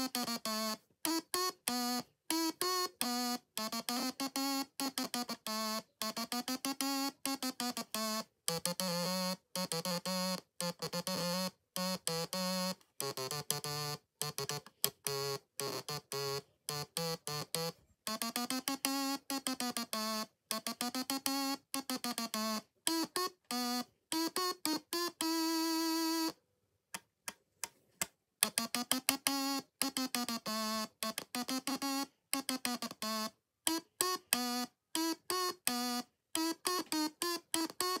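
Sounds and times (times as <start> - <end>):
stylophone playing a tune: 0.0 - 26.4, 28.4 - 38.0.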